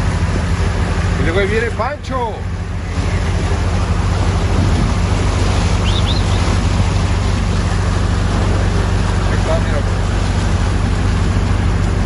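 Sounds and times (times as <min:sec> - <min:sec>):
boat engine humming: 0:00.0 - 0:12.0
wind and water rushing: 0:00.0 - 0:12.0.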